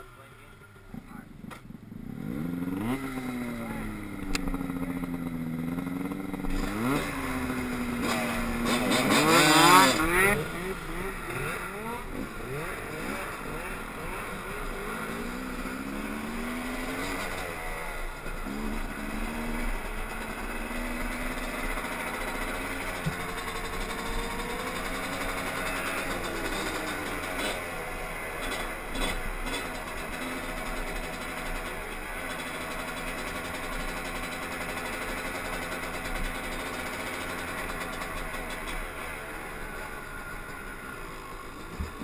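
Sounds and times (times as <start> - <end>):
dirt bike engine revving: 1.0 - 42.0.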